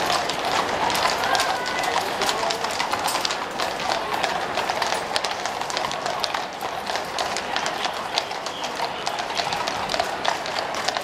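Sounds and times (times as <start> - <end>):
horse hooves on pavement: 0.0 - 11.0.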